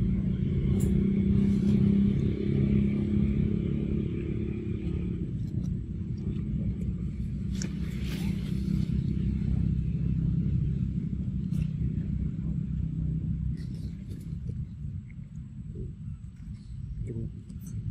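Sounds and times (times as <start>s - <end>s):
engine humming: 0.0s - 17.9s.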